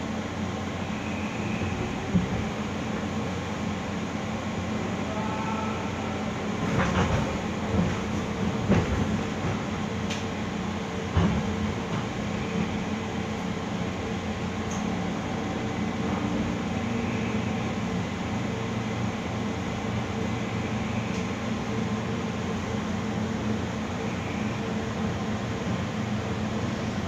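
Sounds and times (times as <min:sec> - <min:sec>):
train running hum: 0:00.0 - 0:27.0.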